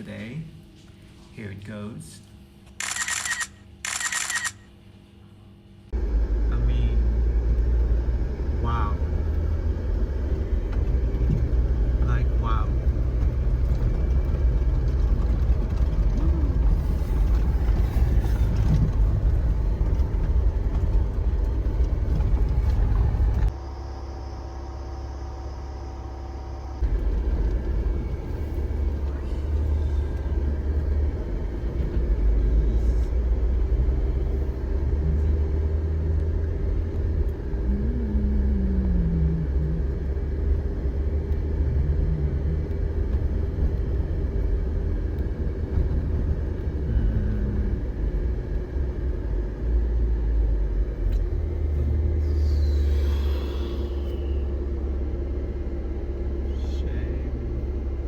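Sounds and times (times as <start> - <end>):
car engine and tyre rumble: 5.9 - 58.0.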